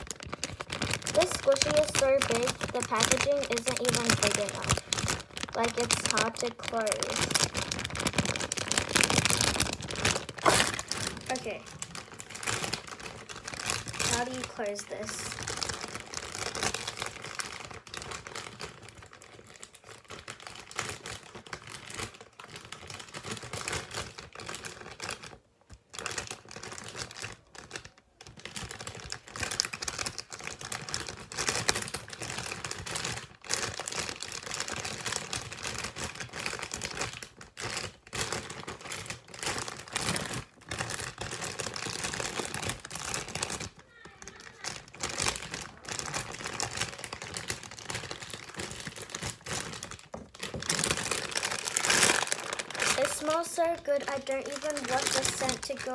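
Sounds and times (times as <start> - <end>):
plastic packaging crinkling: 0.0 - 55.9.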